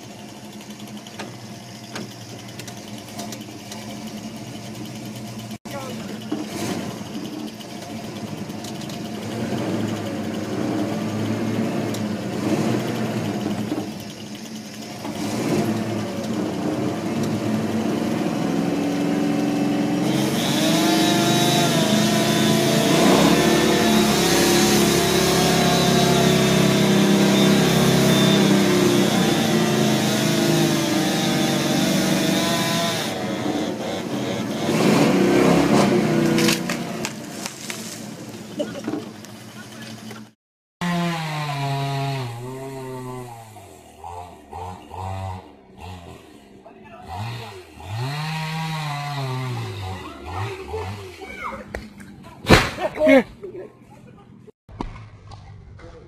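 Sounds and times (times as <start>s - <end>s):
chainsaw cutting: 5.0s - 38.9s, 39.5s - 51.6s.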